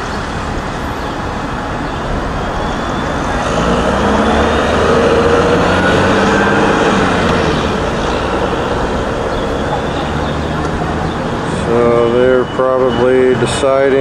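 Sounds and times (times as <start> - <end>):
steady traffic rumble: 0.0 - 14.0
vehicle passing: 0.0 - 14.0.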